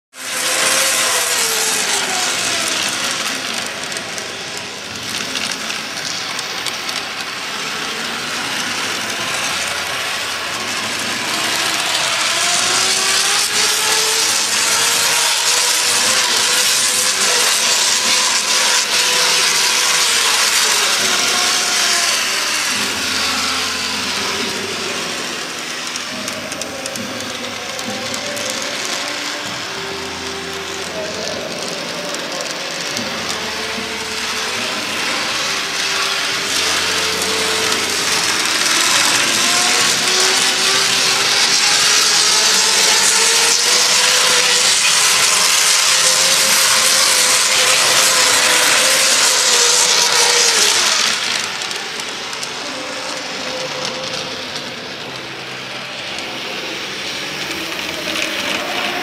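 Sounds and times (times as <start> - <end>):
model tram running: 0.1 - 59.0
steady hiss: 0.1 - 59.0.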